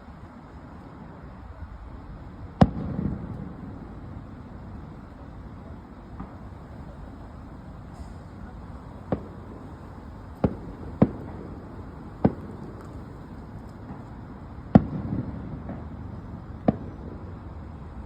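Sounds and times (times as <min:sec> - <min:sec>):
fireworks bangs: 0:02.2 - 0:18.0.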